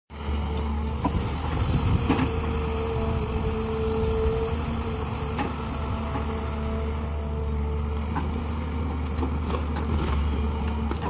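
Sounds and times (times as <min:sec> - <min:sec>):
excavator diesel engine drone: 0:00.1 - 0:11.0.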